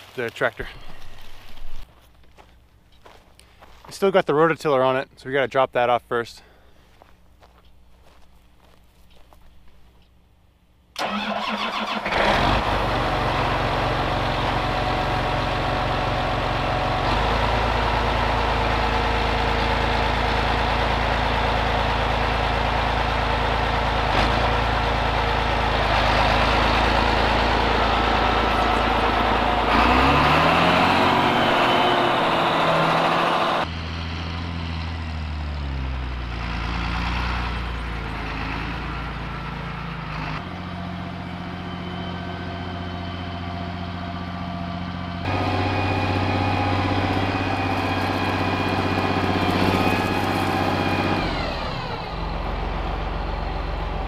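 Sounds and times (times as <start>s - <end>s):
tractor diesel engine starting and running: 5.8s - 54.0s.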